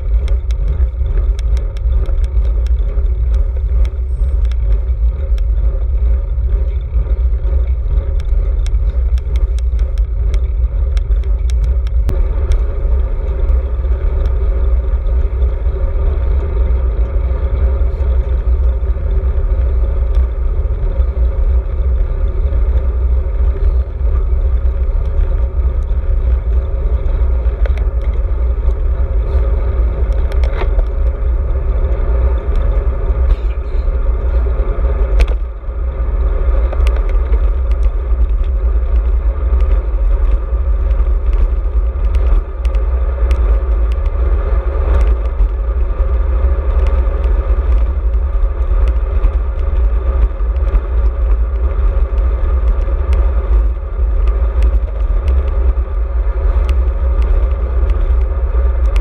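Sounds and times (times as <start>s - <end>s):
bike clicks and rattles: 0.0s - 59.0s
wind buffeting camera: 0.0s - 59.0s.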